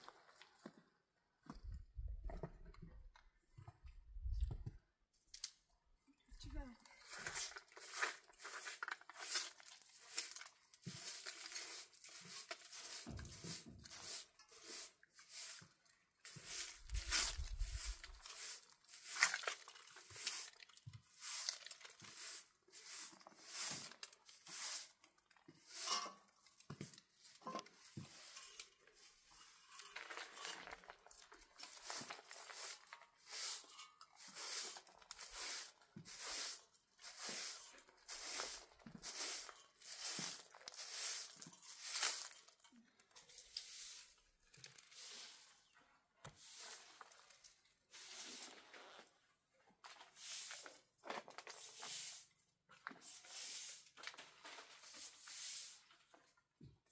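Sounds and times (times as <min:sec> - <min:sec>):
broom sweeping concrete floor: 0:07.0 - 0:42.7, 0:43.3 - 0:45.7, 0:46.3 - 0:49.2, 0:49.8 - 0:56.1.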